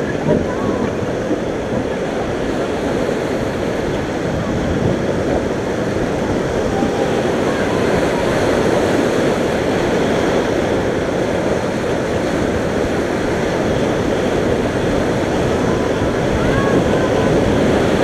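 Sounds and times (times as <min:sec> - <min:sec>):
whitewater rapids rushing: 0:00.0 - 0:18.0.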